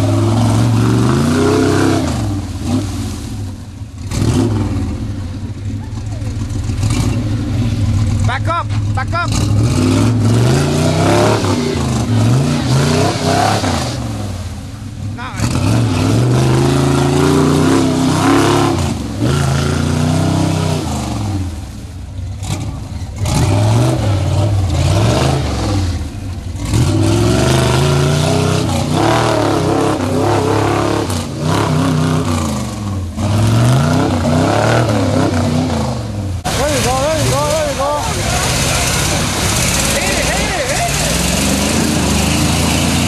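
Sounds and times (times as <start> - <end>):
truck engine revving hard: 0.0 - 3.4, 4.0 - 21.8, 22.4 - 43.0.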